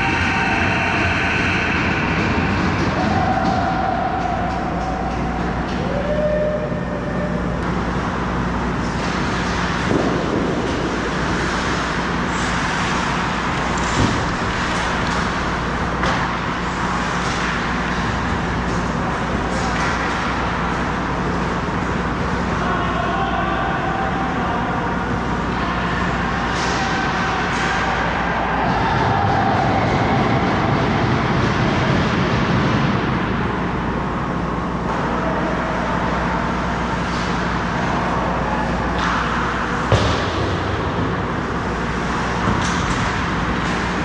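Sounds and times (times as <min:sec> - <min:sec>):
machinery hum: 0:00.0 - 0:44.0.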